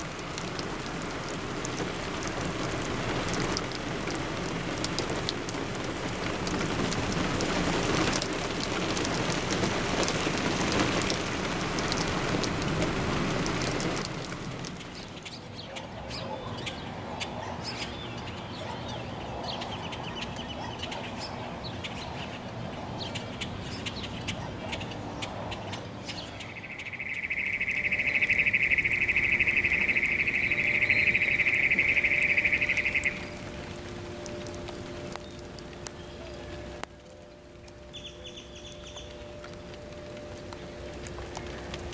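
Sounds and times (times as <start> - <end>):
birds chirping: 0.0 - 41.9
steady rain falling: 0.0 - 41.9.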